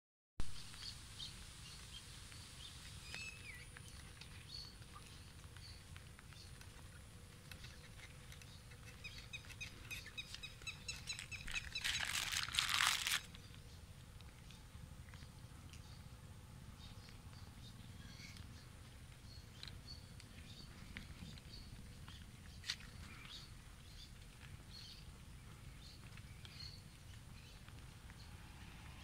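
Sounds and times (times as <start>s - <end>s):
birds chirping: 0.6s - 29.0s.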